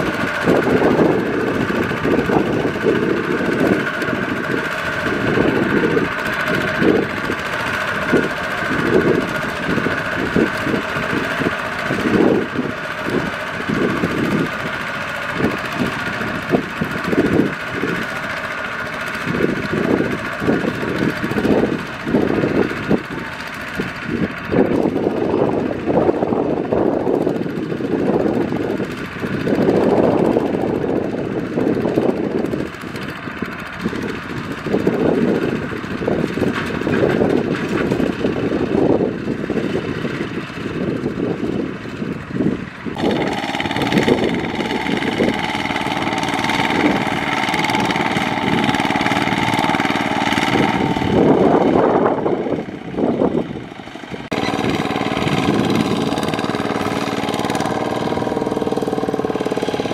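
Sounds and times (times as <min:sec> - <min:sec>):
diesel tractor engine under load: 0:00.0 - 0:59.9
wheels churning in mud: 0:00.0 - 0:59.9.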